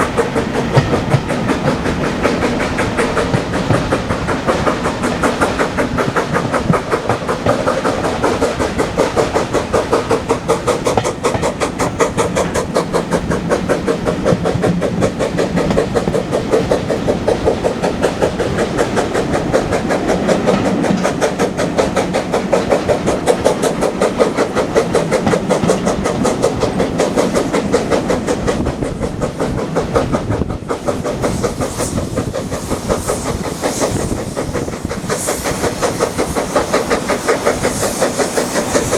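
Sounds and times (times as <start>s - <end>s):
steam hiss: 0.0s - 38.9s
steam train rhythmic clatter: 0.0s - 38.9s.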